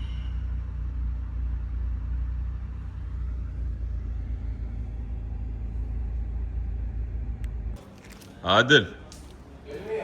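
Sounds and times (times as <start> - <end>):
engine running low rumble: 0.0 - 10.0.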